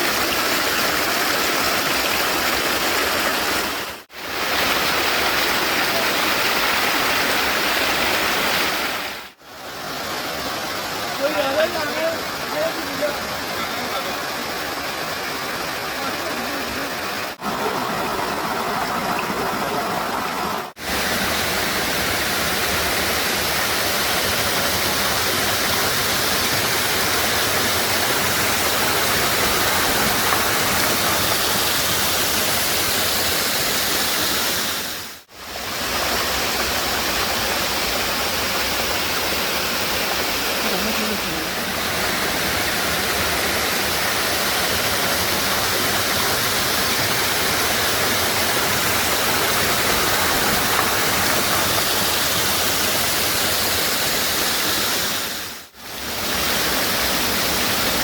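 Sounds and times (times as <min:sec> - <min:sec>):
rush of falling water: 0:00.0 - 0:58.0.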